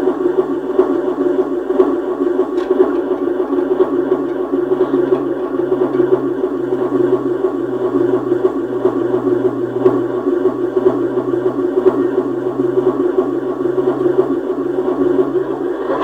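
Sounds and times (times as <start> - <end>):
electronic noise music drone: 0.0 - 16.0
low hum: 0.0 - 16.0.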